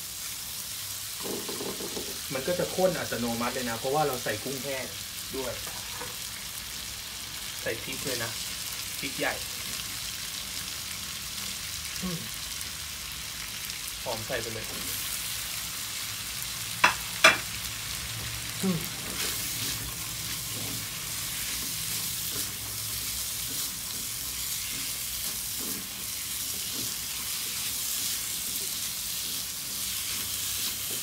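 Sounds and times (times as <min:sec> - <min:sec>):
stir-fry sizzling in a hot pan: 0:00.0 - 0:31.0.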